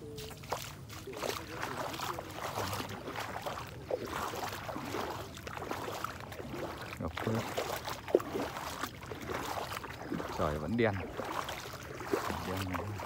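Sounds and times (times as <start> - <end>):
floodwater sloshing and splashing: 0.0 - 13.0.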